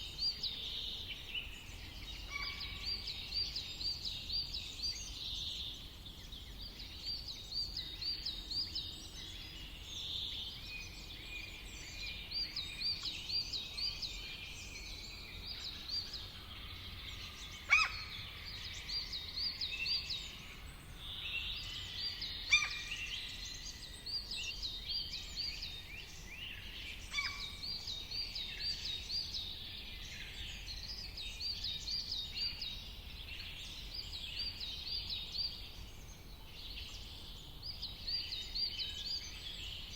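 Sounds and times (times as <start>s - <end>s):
low background hiss: 0.0s - 39.9s.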